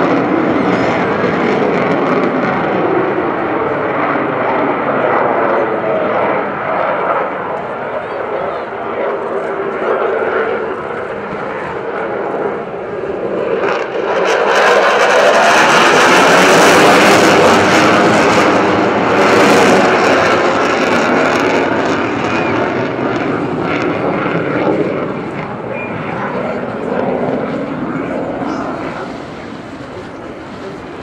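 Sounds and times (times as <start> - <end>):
fighter jet engine roar: 0.0 - 31.0.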